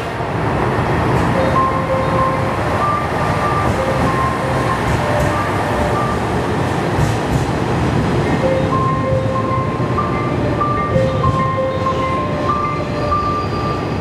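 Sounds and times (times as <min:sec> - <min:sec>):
diesel railcar engine running: 0:00.0 - 0:14.0
train wheels rolling on rails: 0:00.0 - 0:14.0.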